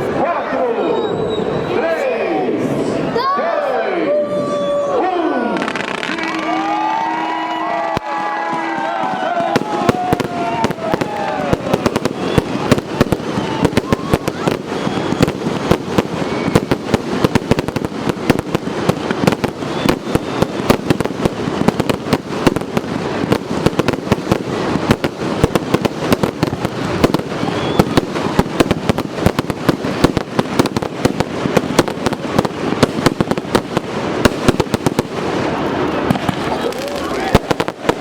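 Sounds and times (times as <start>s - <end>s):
fireworks bangs and crackles: 5.3s - 38.0s.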